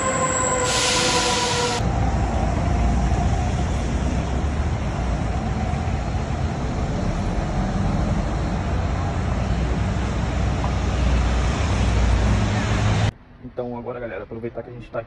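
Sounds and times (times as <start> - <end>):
bus going past: 0.0 - 13.4
cars rumbling: 0.0 - 14.4.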